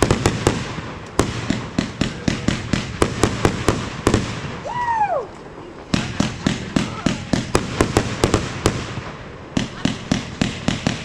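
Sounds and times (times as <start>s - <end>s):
firecracker bangs: 0.0s - 5.0s, 5.9s - 11.0s.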